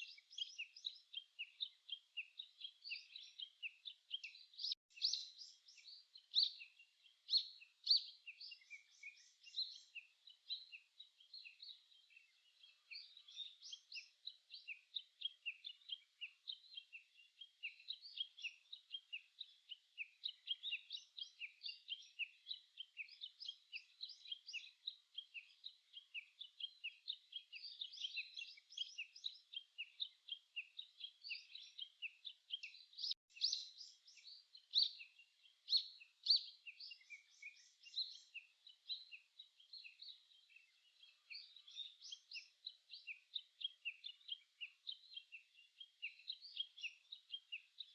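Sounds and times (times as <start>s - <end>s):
birds chirping and singing: 0.0s - 47.9s.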